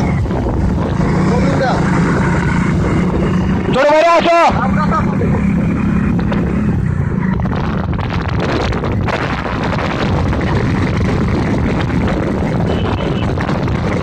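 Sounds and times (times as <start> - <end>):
wind buffeting the microphone: 0.0 - 3.7, 5.4 - 14.0
motorcycle engines running: 0.0 - 14.0.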